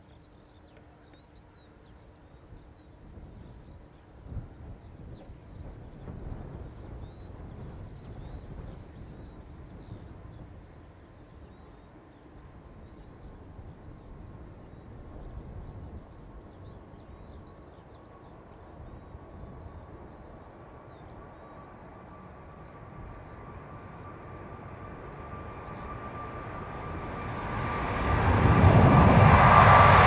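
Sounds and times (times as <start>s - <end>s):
jet engine whine: 0.0s - 30.0s
jet engines rumbling: 1.4s - 30.0s.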